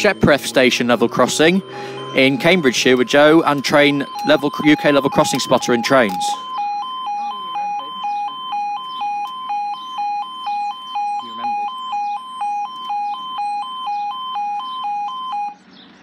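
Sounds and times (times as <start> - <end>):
two-tone crossing alarm: 0.0 - 15.6.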